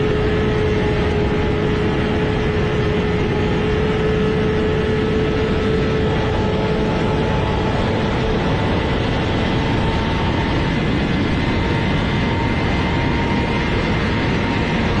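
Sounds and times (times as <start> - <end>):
heavy rushing noise: 0.0 - 15.0
motorcycle engine at steady speed: 0.0 - 15.0.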